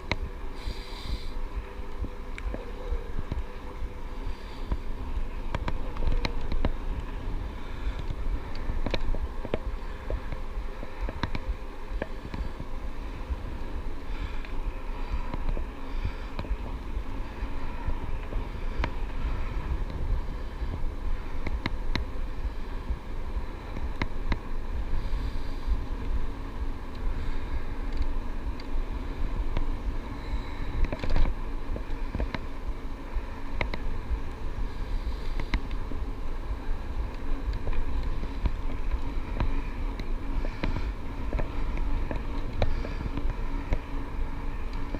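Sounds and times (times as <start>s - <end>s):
electric bike rolling noise: 0.0s - 44.9s
wind on microphone: 0.0s - 44.9s.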